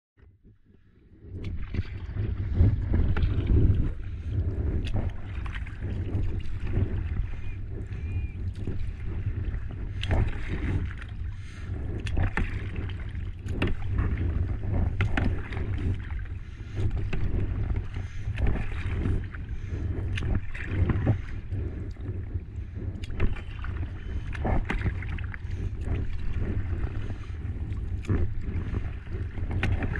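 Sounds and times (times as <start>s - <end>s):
wind rumble on microphone: 0.2s - 29.9s
paddle splashing in water: 1.3s - 29.9s.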